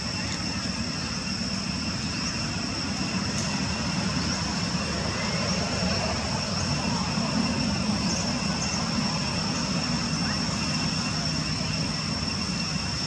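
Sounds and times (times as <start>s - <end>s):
high-pitched drone: 0.0s - 13.0s.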